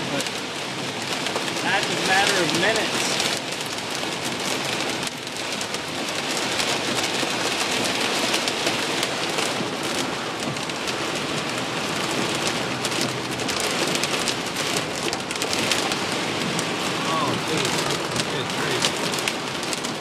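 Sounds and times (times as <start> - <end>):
heavy rain drumming on car roof: 0.0 - 20.0.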